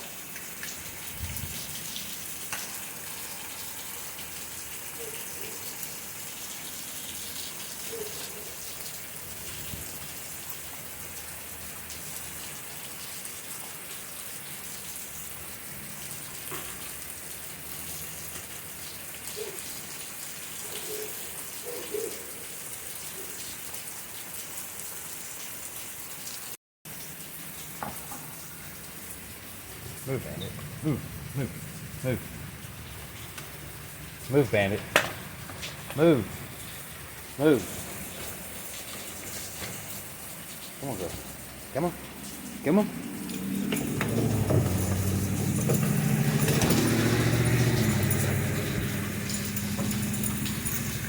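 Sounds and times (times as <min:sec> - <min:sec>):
louder raindrops: 0:00.0 - 0:51.0
steady rain hiss: 0:00.0 - 0:51.0.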